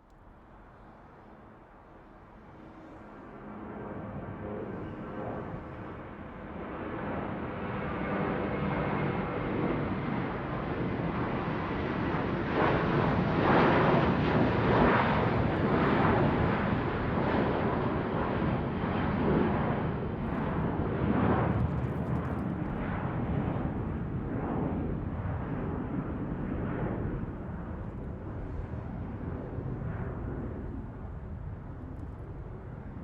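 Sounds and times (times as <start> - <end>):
airplane flying overhead: 0.0 - 33.0.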